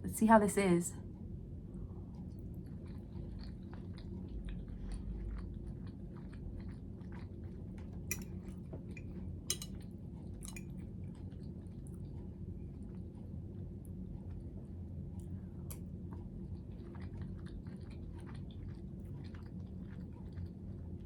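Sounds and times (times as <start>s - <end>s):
person chewing food: 2.2s - 21.0s.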